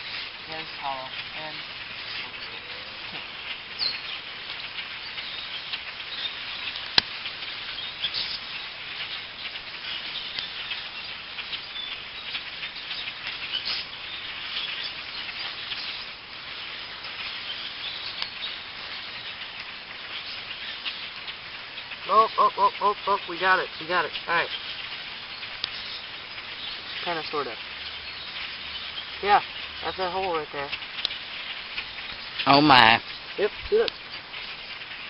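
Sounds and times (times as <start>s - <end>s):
flock of birds chattering: 0.0s - 35.0s.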